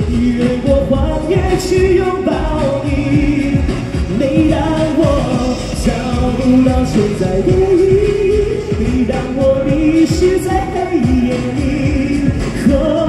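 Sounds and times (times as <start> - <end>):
backing track with steady beat: 0.0 - 13.0
man singing into microphone: 0.0 - 13.0.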